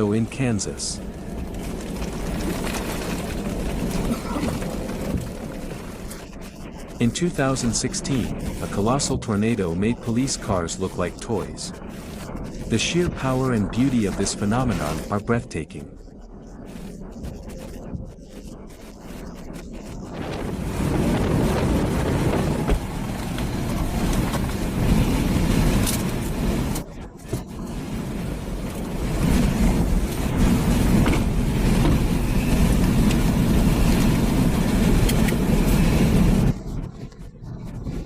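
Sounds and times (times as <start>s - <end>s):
strong wind buffeting microphone: 0.0s - 38.0s.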